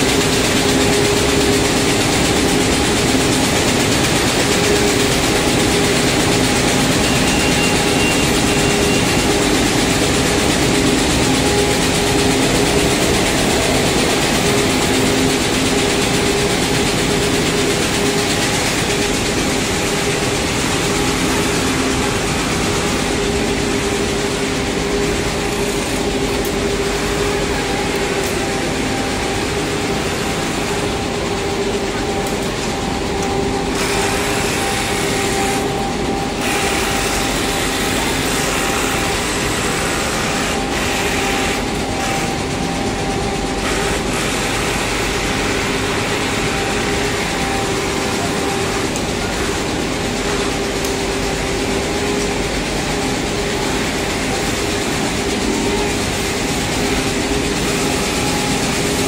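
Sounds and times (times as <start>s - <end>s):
factory machinery din: 0.0s - 59.0s.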